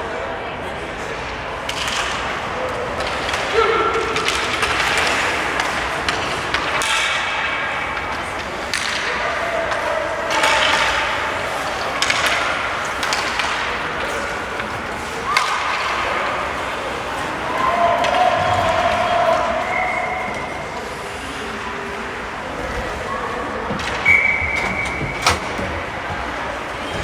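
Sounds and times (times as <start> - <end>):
crowd hubbub: 0.0 - 27.0
hockey sticks and puck clacking: 1.6 - 19.8, 23.4 - 27.0.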